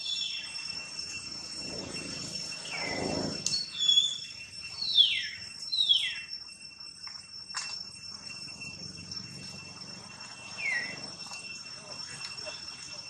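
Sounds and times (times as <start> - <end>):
insects buzzing: 0.0 - 13.0
whistled calls: 0.0 - 13.0.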